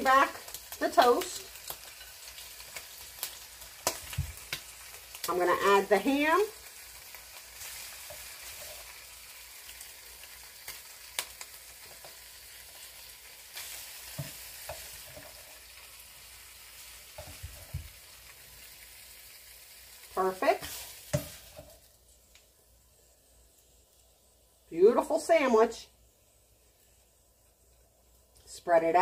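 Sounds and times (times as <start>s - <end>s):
egg sizzling in a pan: 0.0s - 29.0s.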